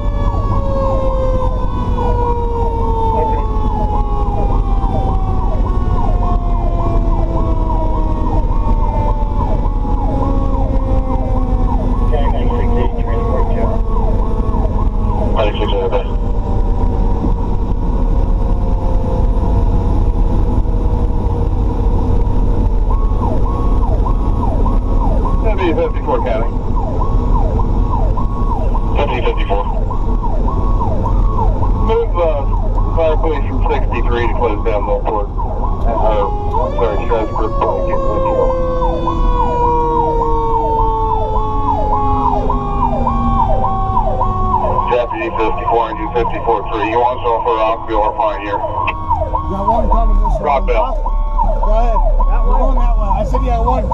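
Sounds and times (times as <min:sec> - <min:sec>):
engine and road rumble: 0:00.0 - 0:53.9
faint siren: 0:00.0 - 0:53.9.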